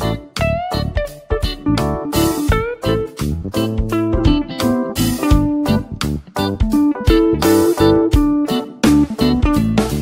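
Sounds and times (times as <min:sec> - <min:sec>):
guitar-led music with a beat: 0:00.0 - 0:10.0.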